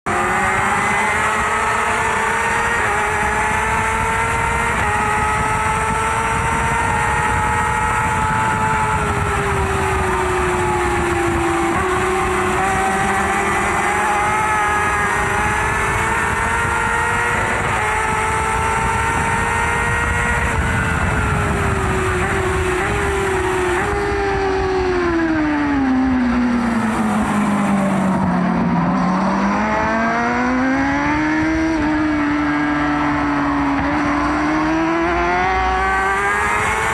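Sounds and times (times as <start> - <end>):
excavator engine and hydraulics whine: 0.1 - 36.9.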